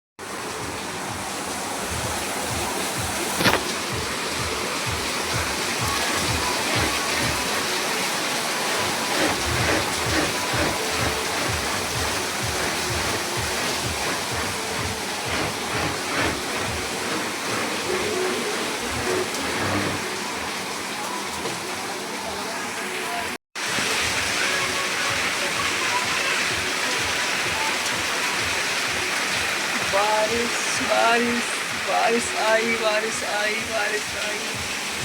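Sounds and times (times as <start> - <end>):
heavy rain falling: 0.2 - 35.0.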